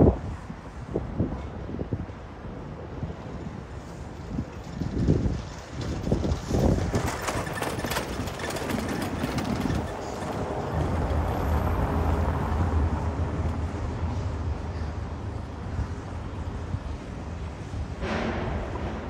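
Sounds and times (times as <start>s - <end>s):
traffic rumble: 0.0s - 19.0s
wind buffeting microphone: 0.0s - 19.0s.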